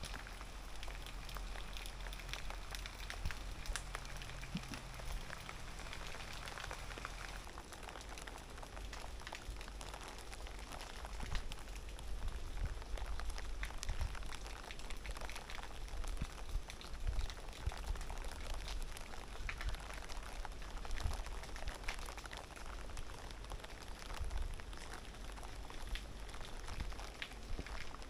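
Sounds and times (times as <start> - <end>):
close raindrops ticking: 0.0 - 28.0
heavy rain falling: 0.0 - 28.0.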